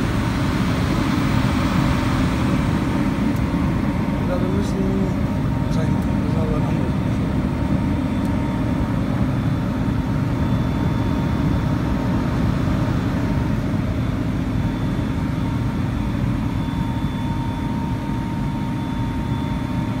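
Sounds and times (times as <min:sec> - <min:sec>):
machine humming with whine: 0:00.0 - 0:20.0.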